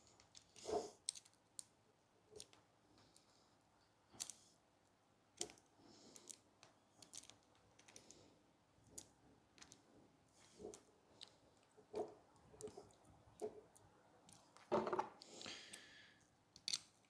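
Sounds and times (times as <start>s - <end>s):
small clicks and rustles: 0.0s - 17.0s.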